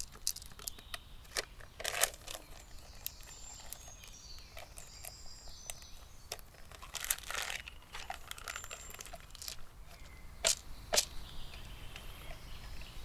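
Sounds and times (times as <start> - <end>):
crinkling and rustling: 0.0 - 11.2.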